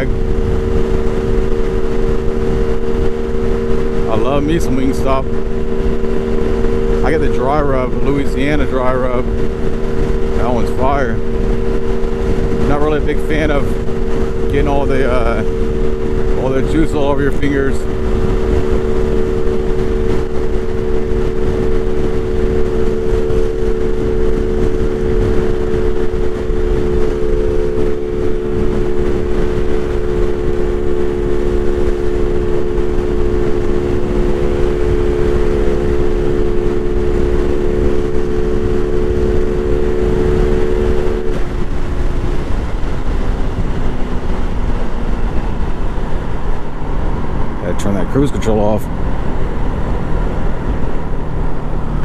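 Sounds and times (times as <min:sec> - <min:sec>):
small engine running steadily: 0:00.0 - 0:52.0
wind noise on microphone: 0:00.0 - 0:52.0.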